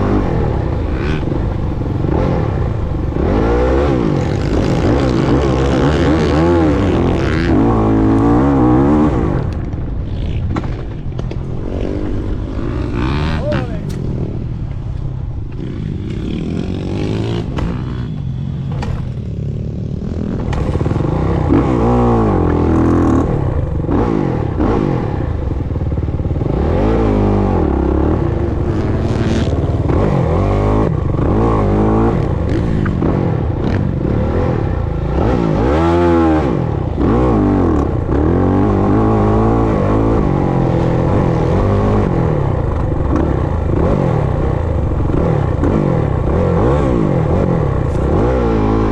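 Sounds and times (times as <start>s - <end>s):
motocross bike engine revving: 0.0s - 10.9s, 11.5s - 14.6s, 15.5s - 48.9s.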